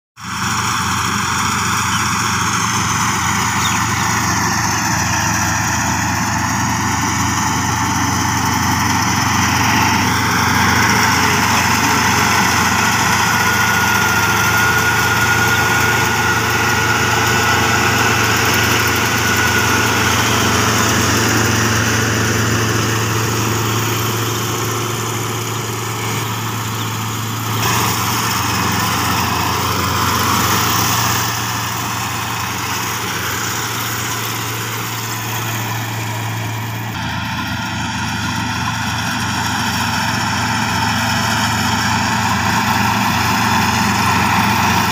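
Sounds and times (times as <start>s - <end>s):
combine harvester running: 0.2s - 44.9s.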